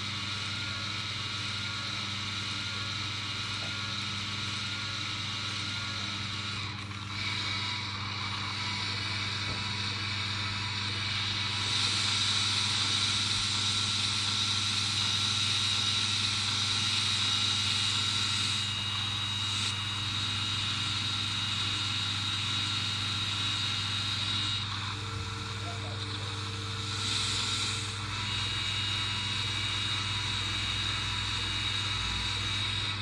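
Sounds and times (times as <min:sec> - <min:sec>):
toy excavator motors whining: 0:00.5 - 0:33.0.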